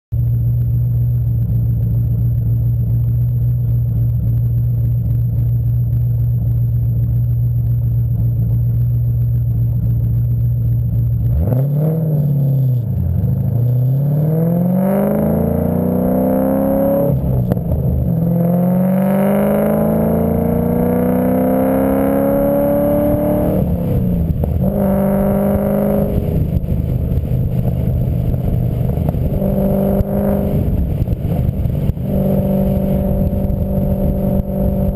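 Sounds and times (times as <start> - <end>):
vehicle engine accelerating: 0.1 - 34.9.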